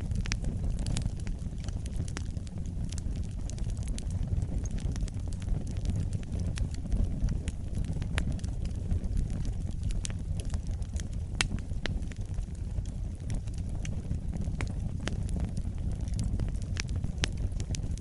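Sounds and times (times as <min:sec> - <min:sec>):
flames rumbling: 0:00.0 - 0:18.0
logs crackling and popping: 0:00.0 - 0:18.0.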